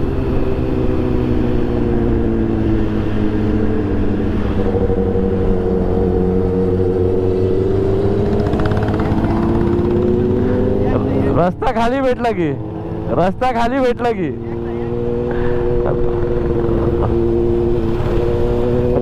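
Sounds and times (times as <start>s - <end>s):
motorcycle engine cruising: 0.0s - 19.0s
wind and road noise: 0.0s - 19.0s.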